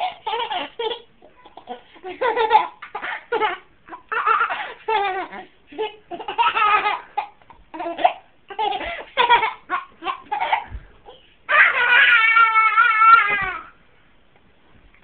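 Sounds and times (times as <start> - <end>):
toddler laughing: 0.0 - 13.8.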